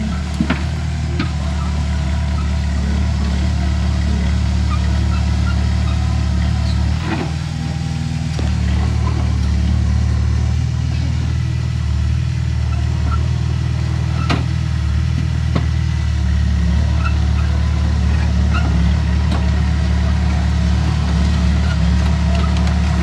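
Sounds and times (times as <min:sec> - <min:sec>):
bulldozer diesel engine rumbling: 0:00.0 - 0:23.0.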